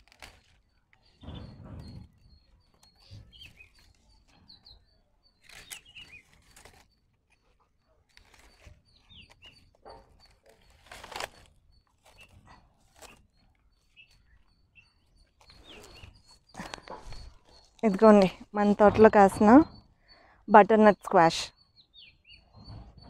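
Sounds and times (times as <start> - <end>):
rustling of vines: 0.0 - 18.8
faint birds chirping: 0.0 - 23.0.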